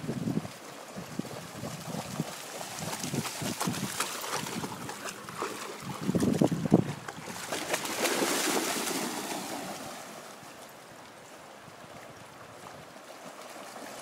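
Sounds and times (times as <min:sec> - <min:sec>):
dogs splashing through water: 0:00.0 - 0:10.9, 0:12.5 - 0:14.0.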